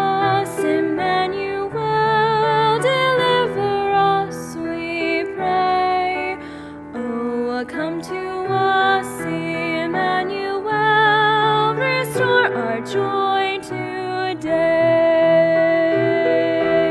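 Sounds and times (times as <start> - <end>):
woman singing a hymn: 0.0 - 16.9.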